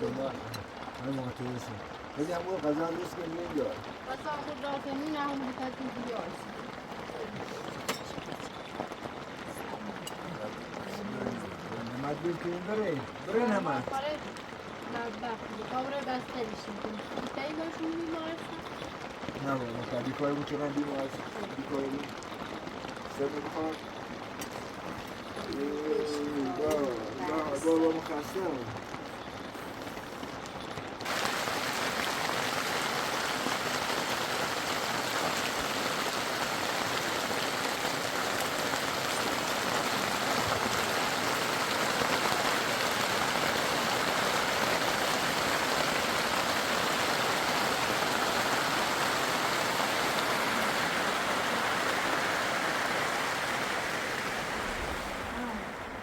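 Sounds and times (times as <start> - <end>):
steady hiss of water: 0.0 - 56.0.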